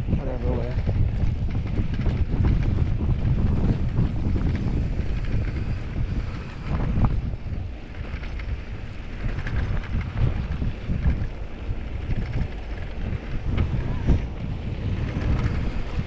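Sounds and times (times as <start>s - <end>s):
bike knocking and rattling: 0.0s - 16.0s
steady rumble: 0.0s - 16.0s
wind buffeting microphone: 0.0s - 16.0s.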